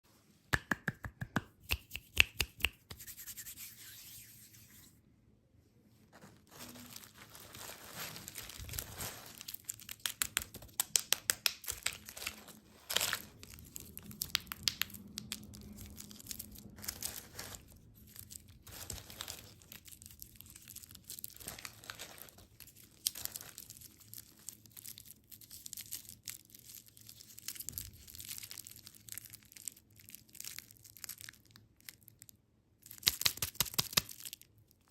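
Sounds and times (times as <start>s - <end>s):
candy wrappers crinkling: 6.2s - 34.9s.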